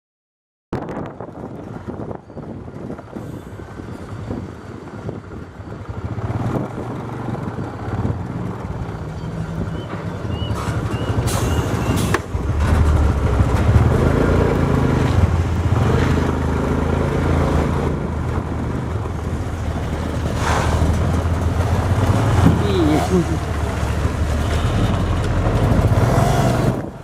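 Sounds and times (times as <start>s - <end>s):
heavy diesel engine running: 2.5s - 27.0s.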